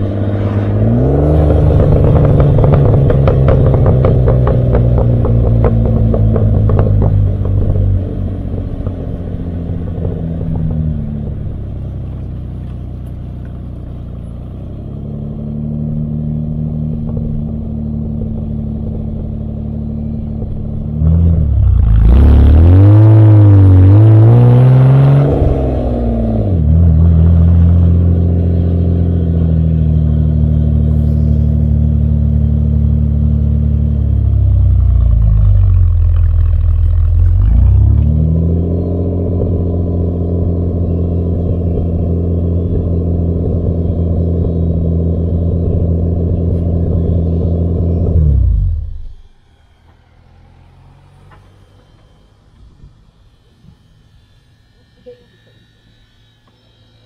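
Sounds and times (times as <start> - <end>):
car engine revving while driving: 0.0 - 49.2.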